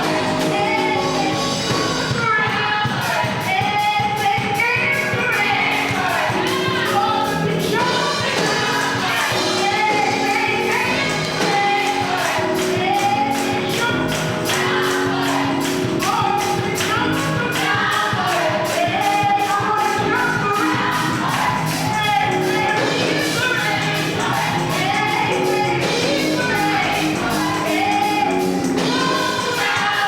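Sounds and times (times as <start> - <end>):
choir singing: 0.0 - 3.5, 5.3 - 30.0
band accompaniment: 0.0 - 30.0
percussion beat: 0.0 - 30.0.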